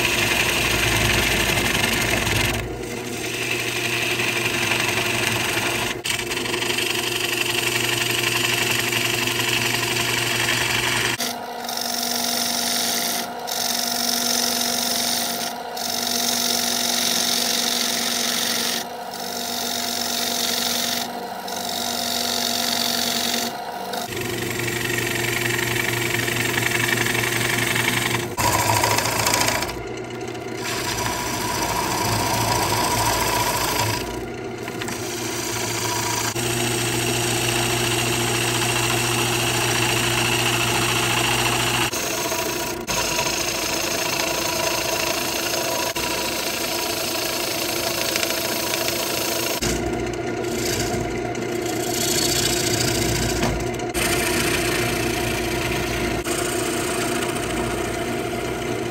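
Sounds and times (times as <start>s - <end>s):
gouge scraping wood shavings: 0.0s - 29.8s, 30.6s - 49.8s, 50.5s - 51.0s, 51.6s - 57.3s
lathe motor hum: 0.0s - 58.9s.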